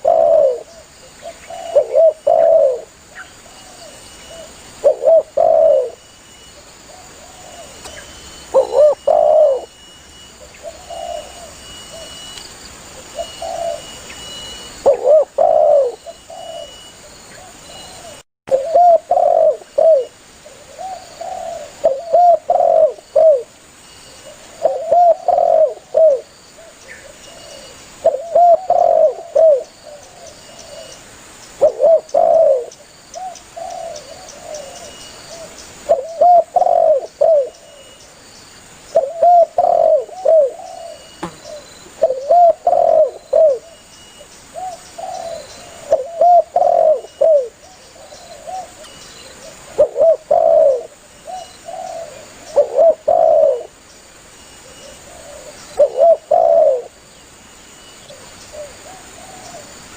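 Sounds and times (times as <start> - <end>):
dove cooing: 0.0 - 6.0, 6.9 - 9.7, 10.4 - 12.2, 13.0 - 23.5, 24.3 - 31.0, 31.6 - 37.9, 38.9 - 43.8, 44.6 - 53.8, 54.6 - 57.0, 58.1 - 59.8.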